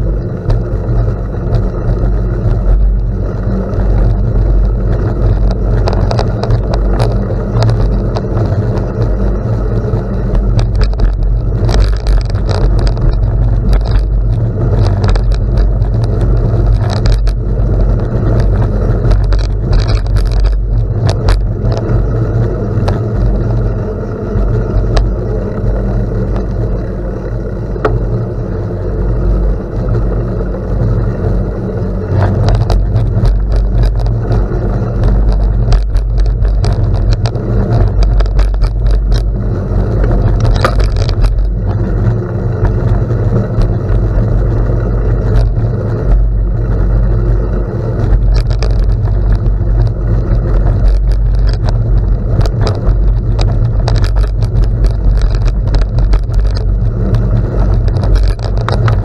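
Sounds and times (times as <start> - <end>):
bicycle tyres rumbling on gravel: 0.0 - 59.0
stones and bike clicking and rattling: 0.0 - 59.0.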